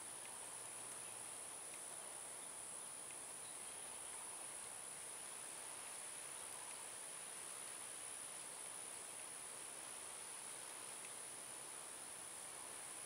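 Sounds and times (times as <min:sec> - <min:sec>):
insects trilling: 0:00.0 - 0:13.0
light background hiss: 0:00.0 - 0:13.0.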